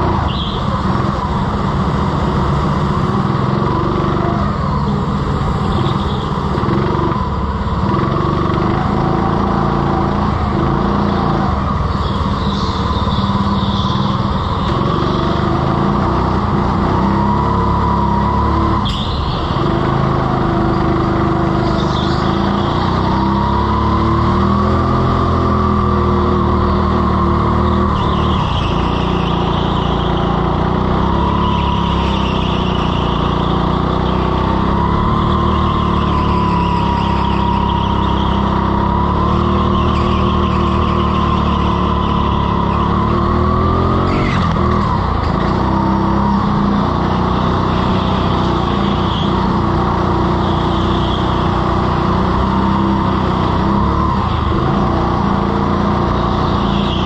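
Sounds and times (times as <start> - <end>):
go-kart motor whining: 0.0 - 57.0.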